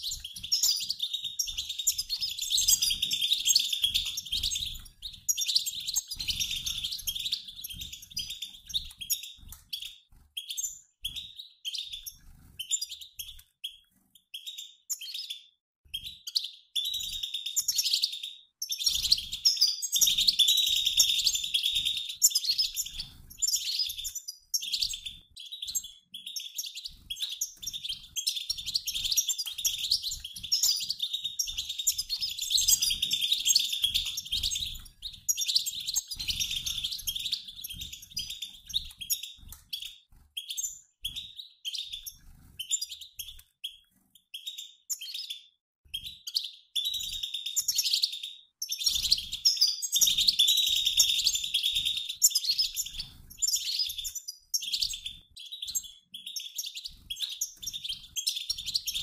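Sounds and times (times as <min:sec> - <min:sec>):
goldfinches twittering: 0:00.0 - 0:13.4, 0:16.3 - 0:43.4, 0:46.3 - 0:59.0.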